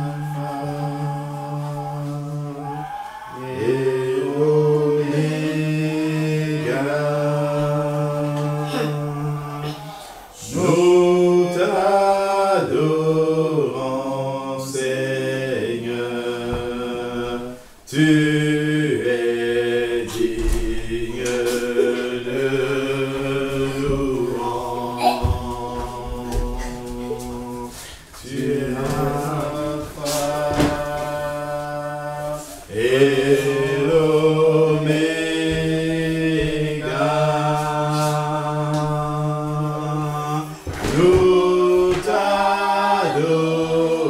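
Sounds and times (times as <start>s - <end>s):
group singing a hymn unaccompanied: 0.0s - 44.0s.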